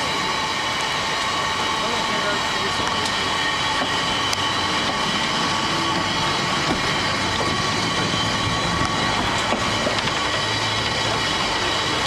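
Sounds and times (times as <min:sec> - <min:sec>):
funicular car rolling on rails: 0:00.0 - 0:12.0.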